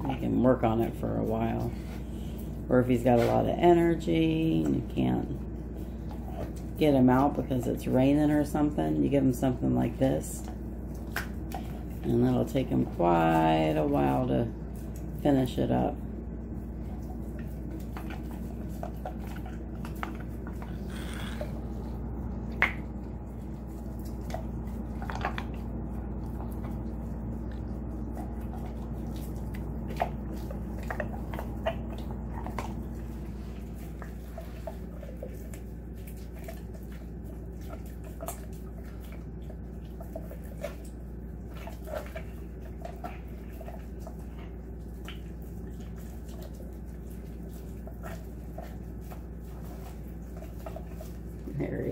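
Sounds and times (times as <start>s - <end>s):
dog chewing wetly: 0.0s - 51.9s
low steady hum: 0.0s - 51.9s.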